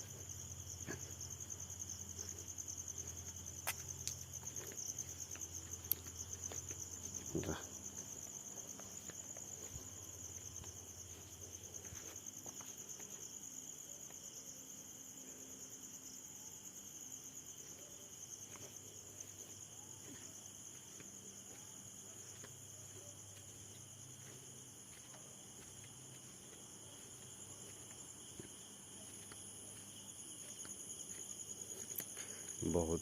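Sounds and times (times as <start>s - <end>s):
crickets chirring: 0.0s - 33.0s.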